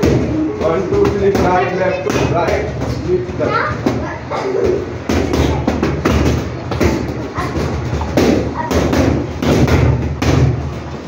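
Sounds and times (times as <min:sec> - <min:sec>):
hubbub of voices: 0:00.0 - 0:11.0.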